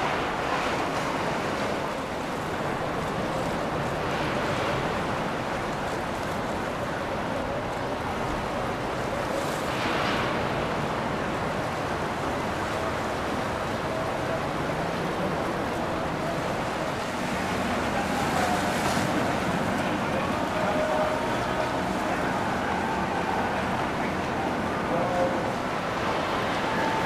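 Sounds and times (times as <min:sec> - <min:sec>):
faint boat engine hum: 0:00.0 - 0:27.0
rushing water: 0:00.0 - 0:27.0.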